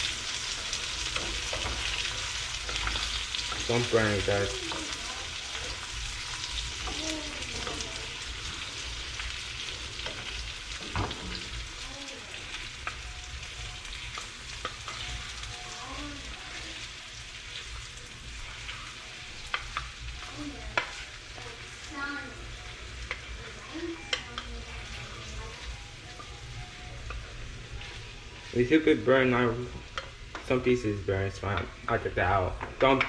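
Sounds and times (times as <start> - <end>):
hot dogs sizzling in a pan: 0.0 - 33.0.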